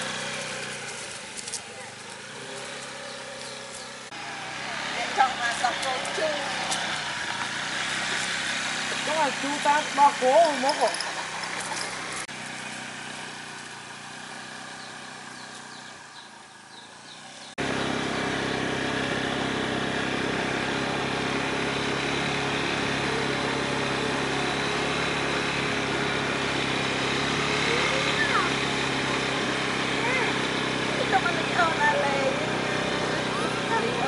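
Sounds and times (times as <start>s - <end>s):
motor scooter riding off: 0.0s - 34.0s
scooter engine running steadily: 0.0s - 34.0s.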